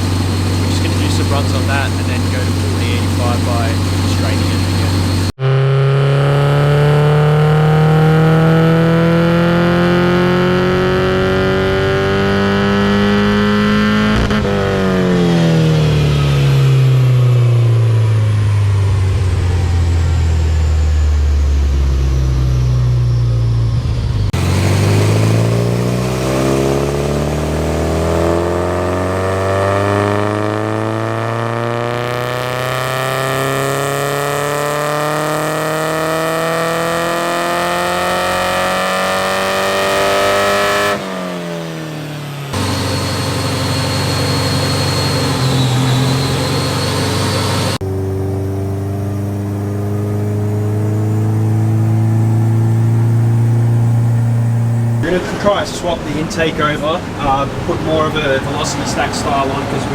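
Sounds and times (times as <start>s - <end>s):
car engine revving on dyno: 0.0s - 55.7s.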